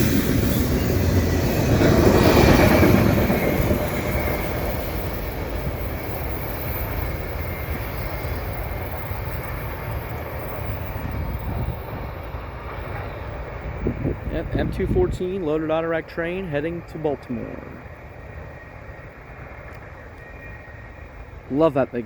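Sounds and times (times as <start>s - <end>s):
freight train rolling on rails: 0.0s - 22.0s.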